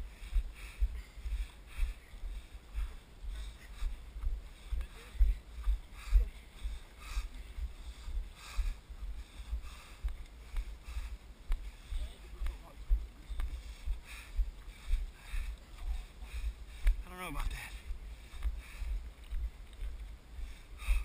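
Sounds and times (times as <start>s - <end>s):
footsteps on dirt trail: 0.0s - 21.0s.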